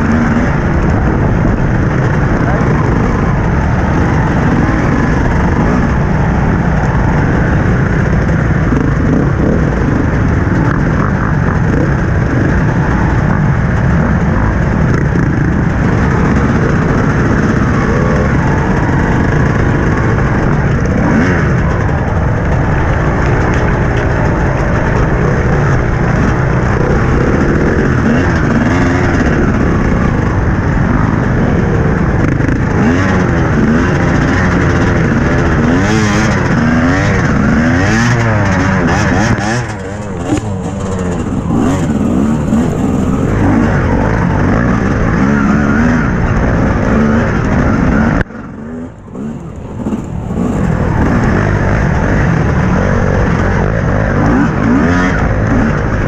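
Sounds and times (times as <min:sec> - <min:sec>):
dirt bike engine revving: 0:00.0 - 0:56.0
other dirt bikes running: 0:00.0 - 0:56.0.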